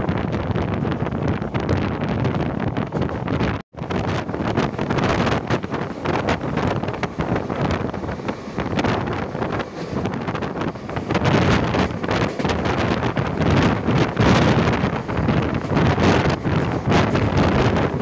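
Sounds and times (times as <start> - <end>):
train running noise: 0.0 - 18.0
wind buffeting microphone: 0.0 - 18.0
train clattering: 2.2 - 18.0.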